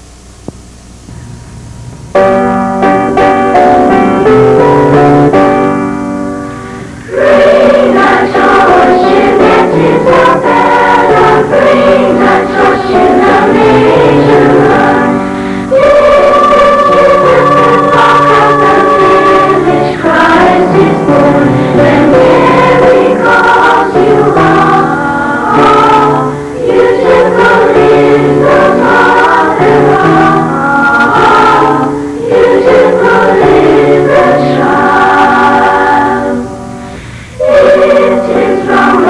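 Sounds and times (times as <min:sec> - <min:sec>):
choir singing: 0:06.9 - 0:39.0.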